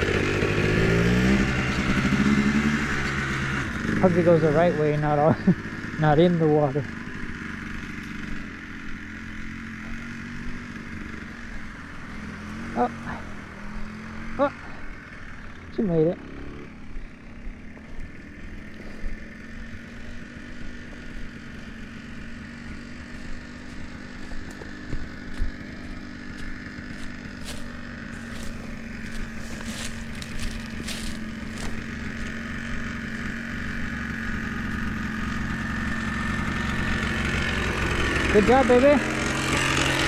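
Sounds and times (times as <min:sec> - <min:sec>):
engine droning: 0:00.0 - 0:40.0.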